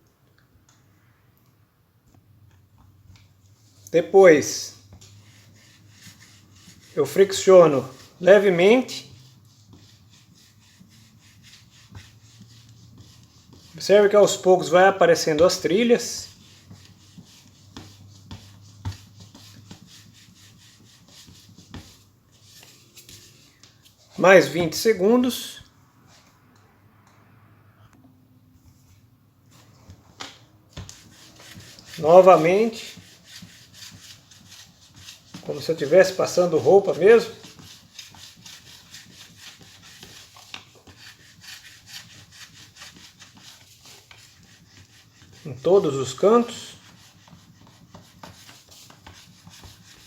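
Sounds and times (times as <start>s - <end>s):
iron scraping on paper: 4.0s - 25.0s, 30.8s - 50.0s.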